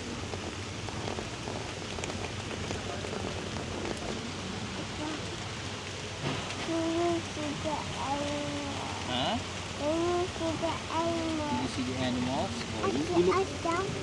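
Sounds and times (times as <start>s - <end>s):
hiss of falling water: 0.0s - 14.0s.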